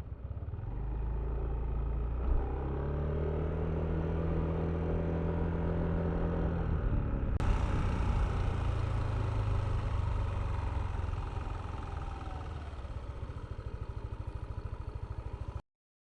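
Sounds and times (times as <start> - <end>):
scooter engine slowing and idling: 0.0 - 15.6.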